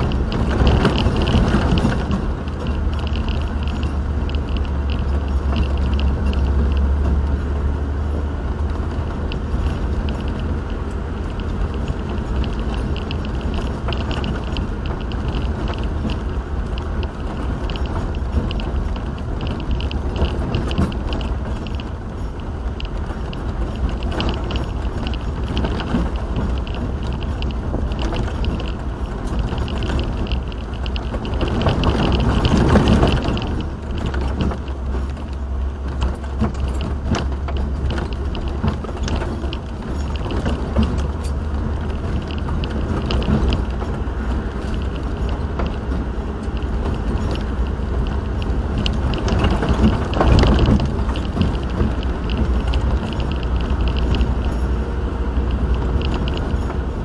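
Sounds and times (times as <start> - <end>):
light rattles and clicks: 0.0 - 57.0
vehicle interior road rumble: 0.0 - 57.0.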